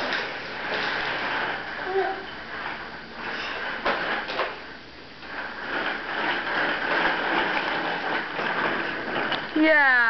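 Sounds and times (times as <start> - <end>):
baby walker rattling on floor: 0.0 - 10.0.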